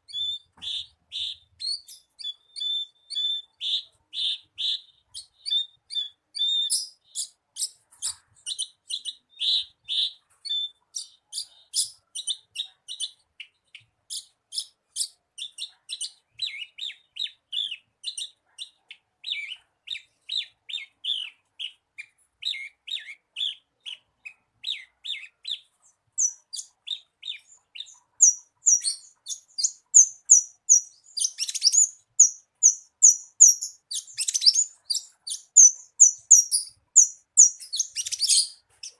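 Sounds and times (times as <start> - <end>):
bird singing rapid chirps and trills: 0.0 - 38.9.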